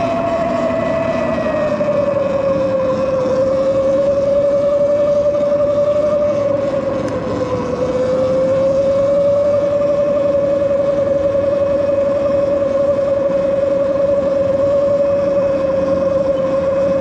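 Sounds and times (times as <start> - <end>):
electric bike motor whining: 0.0 - 17.0
wind noise: 0.0 - 17.0.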